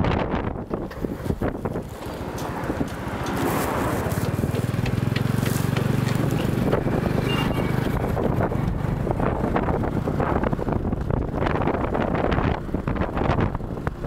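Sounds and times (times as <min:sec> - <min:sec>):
engine hum: 0:00.0 - 0:14.0
wind buffeting microphone: 0:00.0 - 0:14.0.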